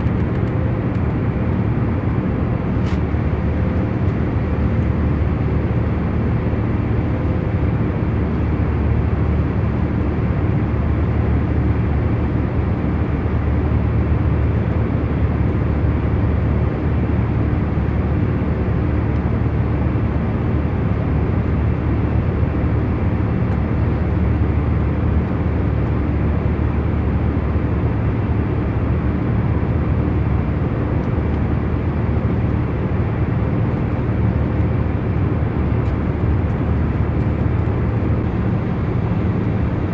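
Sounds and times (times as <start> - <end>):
airliner cabin rumble: 0.0 - 13.3, 14.2 - 39.9.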